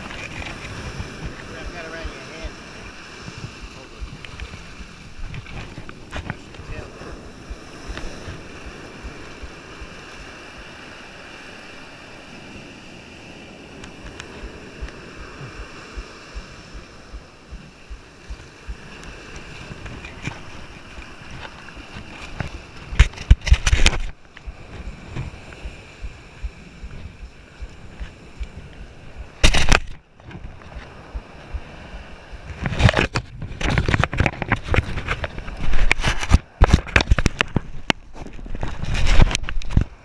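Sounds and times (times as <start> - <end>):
ocean surf on shoreline: 0.0 - 40.0
wind noise on microphone: 0.0 - 40.0.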